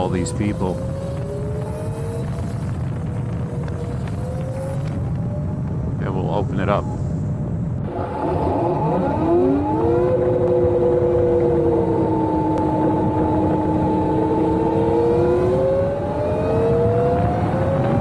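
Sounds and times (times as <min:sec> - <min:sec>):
electric motor whining: 0:00.0 - 0:05.3, 0:07.8 - 0:18.0
wind and road noise: 0:00.0 - 0:18.0.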